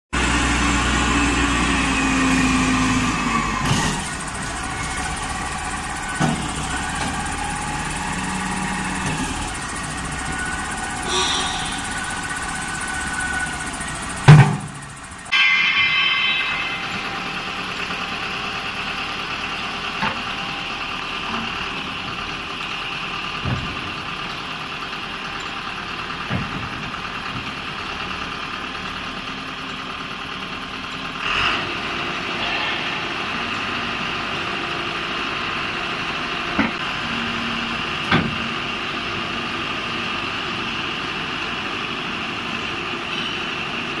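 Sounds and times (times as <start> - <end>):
diesel engine running: 0.1 - 15.3, 16.8 - 44.0.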